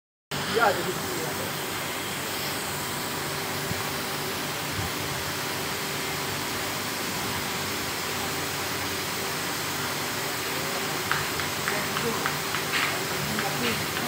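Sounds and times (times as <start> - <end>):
industrial machinery drone: 0.3 - 14.0.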